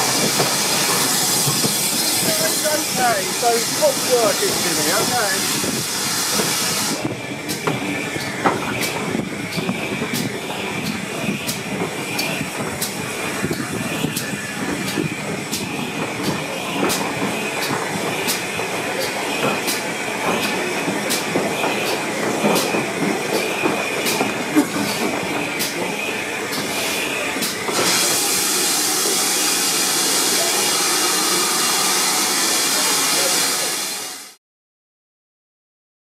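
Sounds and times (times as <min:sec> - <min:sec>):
steam hissing: 0:00.0 - 0:08.9, 0:10.1 - 0:34.4
train wheels clicking over rail joints: 0:00.0 - 0:33.6.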